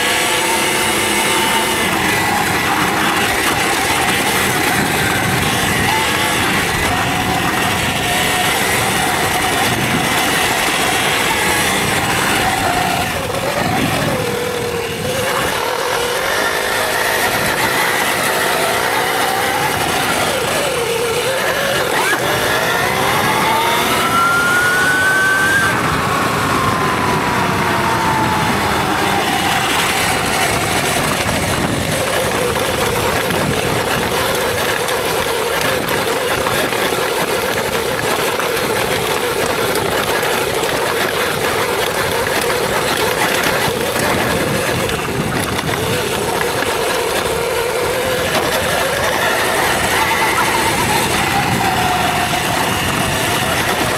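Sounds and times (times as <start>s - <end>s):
electric motor whining: 0.0s - 53.9s
wind and tyre noise: 0.0s - 53.9s.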